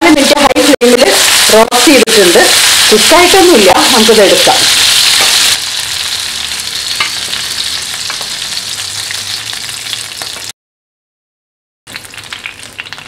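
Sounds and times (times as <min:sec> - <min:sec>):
chicken sizzling in a pan: 0:00.2 - 0:10.5, 0:11.9 - 0:13.0.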